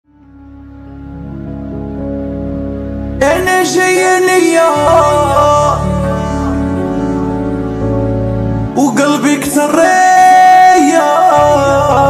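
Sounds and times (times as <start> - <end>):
sustained low chords: 0.1 - 9.9.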